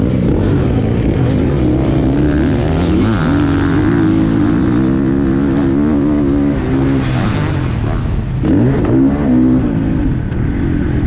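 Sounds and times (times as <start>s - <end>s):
motorbike engine revving high: 0.0s - 11.0s.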